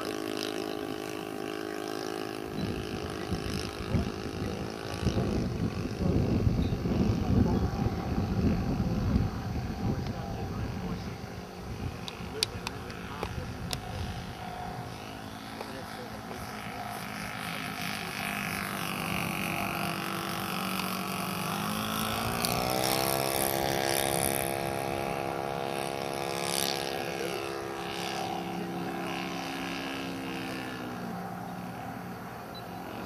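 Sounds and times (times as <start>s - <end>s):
model aircraft engine running: 0.0s - 33.0s.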